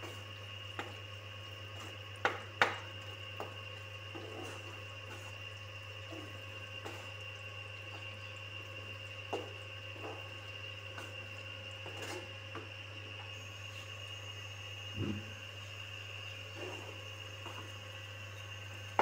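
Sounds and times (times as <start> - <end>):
wooden spoon stirring in pan: 0.0 - 13.5, 16.4 - 19.0
steady hum: 0.0 - 19.0.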